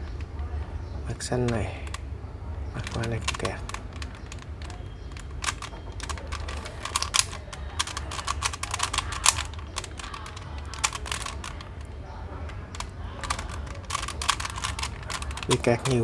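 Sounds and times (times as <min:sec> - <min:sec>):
plastic puzzle clicking: 0:01.1 - 0:02.1, 0:02.7 - 0:16.0.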